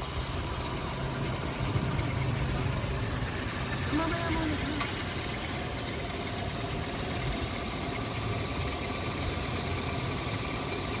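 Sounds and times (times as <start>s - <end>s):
high-pitched pulsing squeak: 0.0s - 11.0s.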